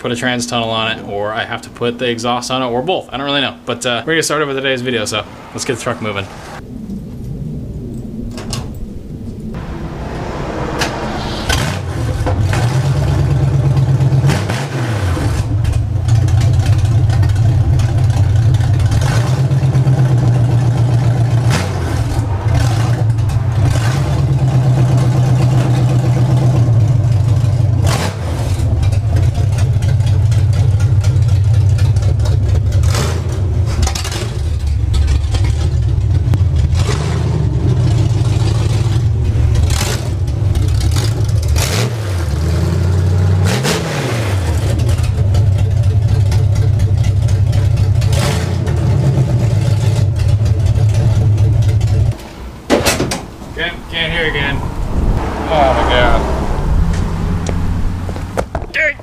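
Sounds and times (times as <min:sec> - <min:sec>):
loud unmuffled truck engine revving: 0:04.3 - 0:58.6.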